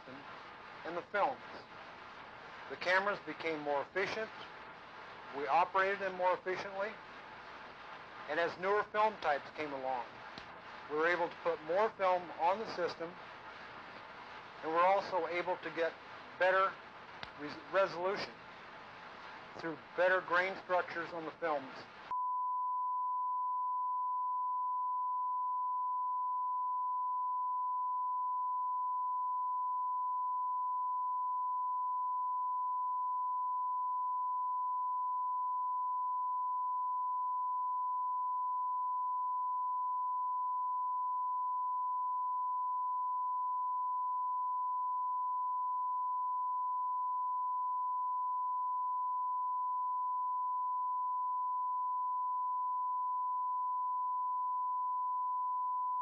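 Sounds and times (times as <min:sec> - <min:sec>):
steady pure tone: 0:00.0 - 0:56.0.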